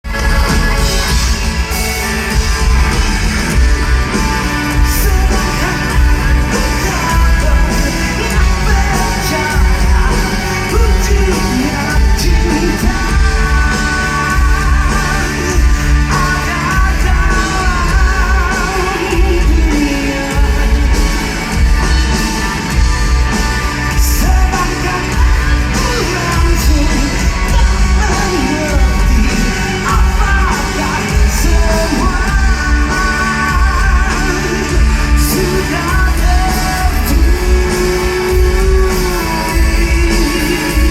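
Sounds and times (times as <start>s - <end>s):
live rock band: 0.0s - 40.9s
person singing: 0.0s - 40.9s.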